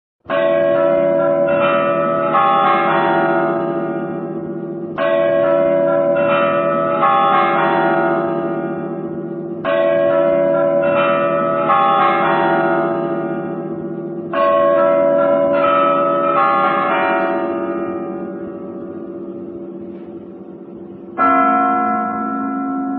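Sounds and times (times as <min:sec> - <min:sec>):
church bells ringing: 0:00.3 - 0:22.9.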